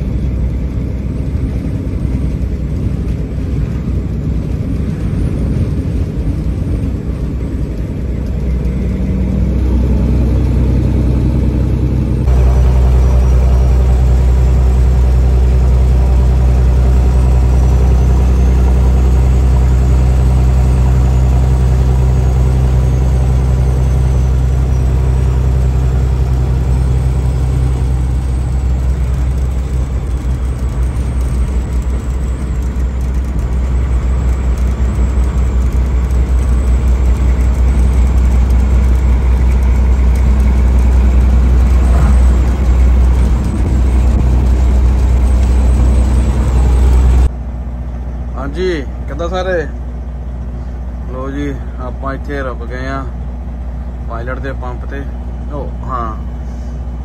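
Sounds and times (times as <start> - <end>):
truck engine droning: 0.0 - 57.0.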